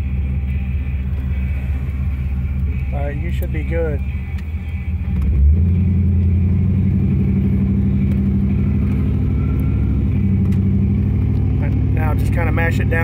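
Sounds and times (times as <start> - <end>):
pickup engine pulling away: 0.0 - 13.0.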